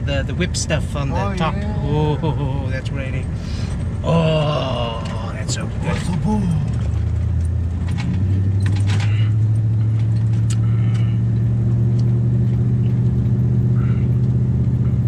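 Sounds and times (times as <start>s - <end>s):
engine and road drone in cabin: 0.0s - 15.0s.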